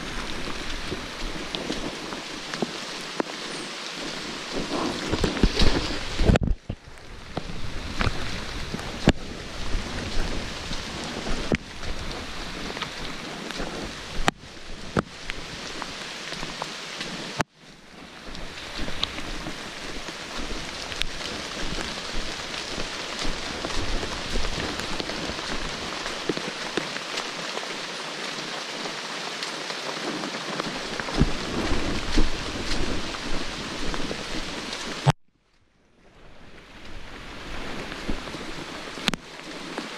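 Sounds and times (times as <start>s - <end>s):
rain pattering on foliage: 0.0s - 39.9s.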